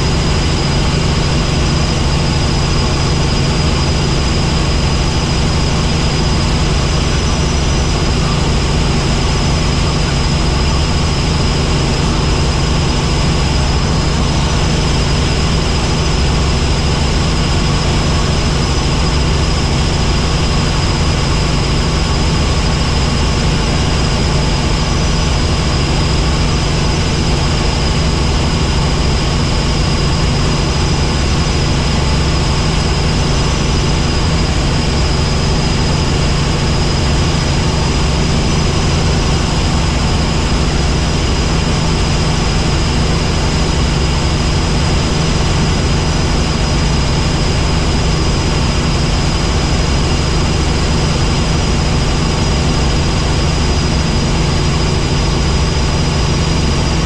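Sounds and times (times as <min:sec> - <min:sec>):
helicopter rotor and engine drone: 0:00.0 - 0:57.0
high whine: 0:00.0 - 0:57.0.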